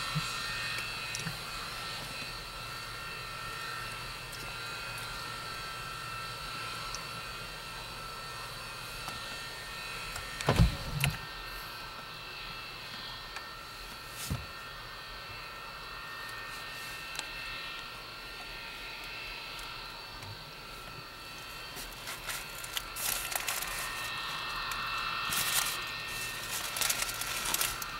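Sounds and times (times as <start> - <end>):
jet turbine whine: 0.0 - 27.9.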